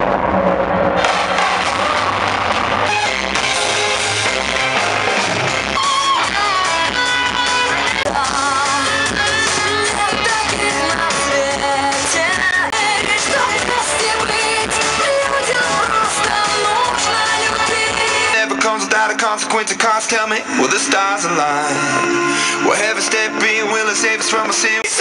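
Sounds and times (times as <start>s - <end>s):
electronic music: 0.0s - 25.0s
rock song with singing: 0.0s - 25.0s.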